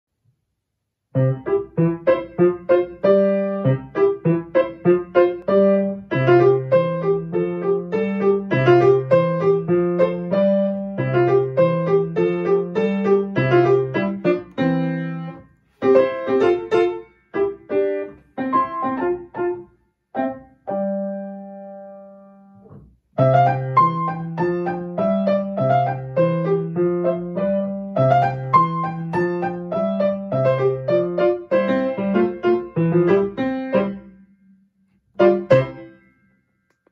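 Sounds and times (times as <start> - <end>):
piano playing hoedown tune: 1.2 - 22.6, 23.2 - 34.3, 35.2 - 36.2.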